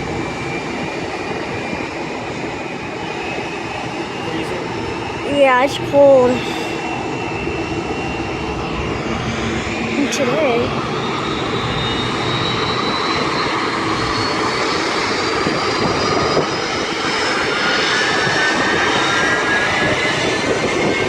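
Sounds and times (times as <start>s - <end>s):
jet engines roaring and whining: 0.0s - 21.0s.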